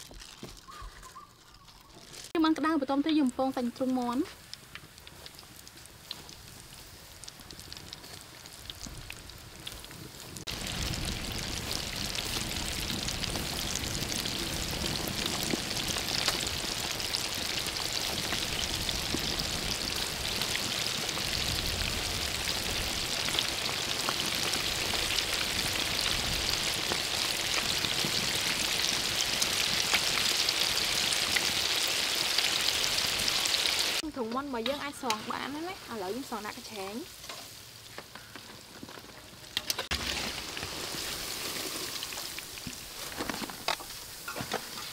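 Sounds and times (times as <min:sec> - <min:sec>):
chicken sizzling in hot oil: 0:02.9 - 0:37.9, 0:39.6 - 0:44.9.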